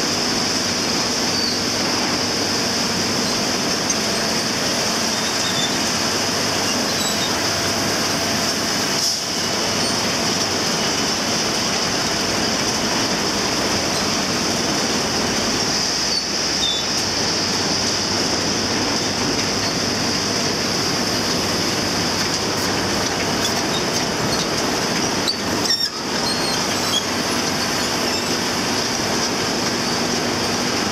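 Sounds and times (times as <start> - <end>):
loud mechanical machinery noise: 0.0 - 30.9.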